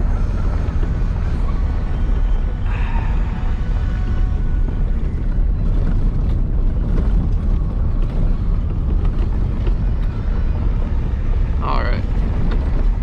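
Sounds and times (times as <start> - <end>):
truck engine and tyres rumbling: 0.0 - 13.0.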